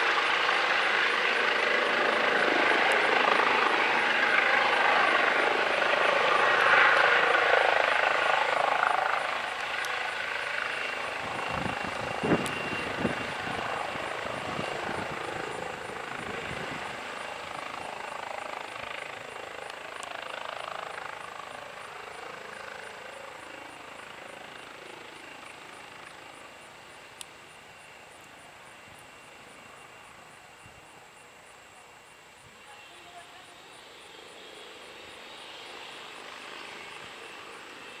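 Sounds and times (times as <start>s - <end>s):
helicopter rotor and engine: 0.0s - 38.0s.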